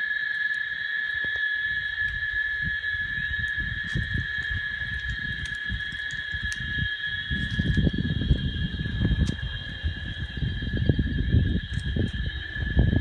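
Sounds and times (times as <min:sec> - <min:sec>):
cicadas buzzing: 0:00.0 - 0:13.0
low rumbling: 0:01.8 - 0:13.0.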